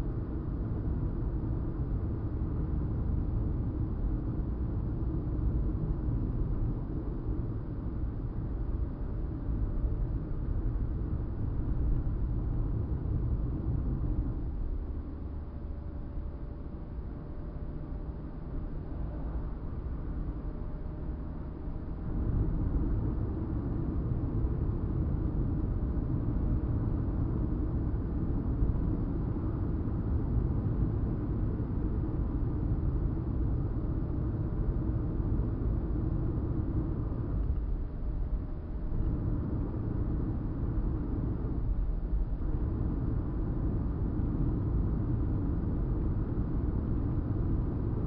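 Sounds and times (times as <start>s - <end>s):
car engine and tyre rumble: 0.0s - 48.0s.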